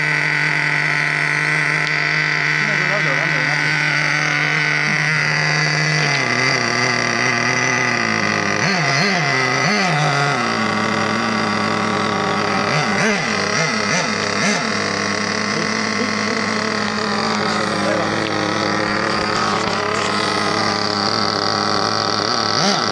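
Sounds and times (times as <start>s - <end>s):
rc car motor revving: 0.0s - 22.9s.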